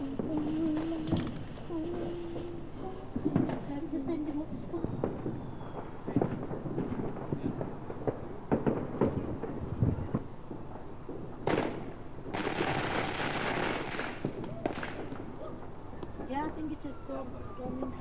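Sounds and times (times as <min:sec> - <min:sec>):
fireworks bangs and crackles: 0:00.0 - 0:18.0
fireworks hissing: 0:00.0 - 0:18.0.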